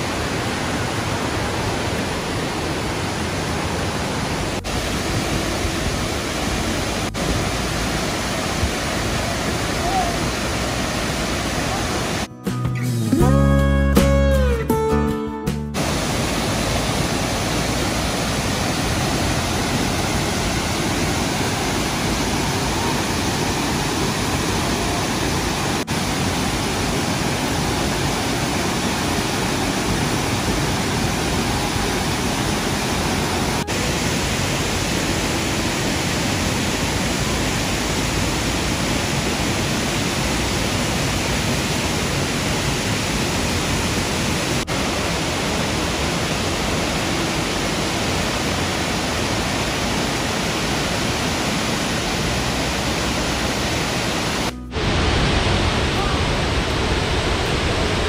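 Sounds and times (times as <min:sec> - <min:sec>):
waterfall roaring: 0:00.0 - 0:12.3, 0:15.8 - 0:58.0.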